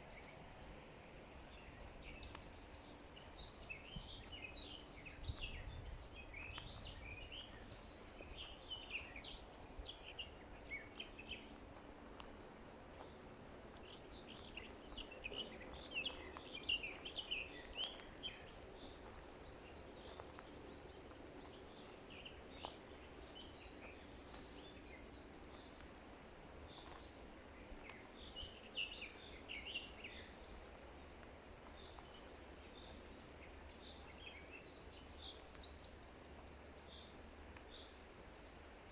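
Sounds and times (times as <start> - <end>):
faint forest ambience hiss: 0.0 - 38.9
songbirds chirping: 0.0 - 38.9.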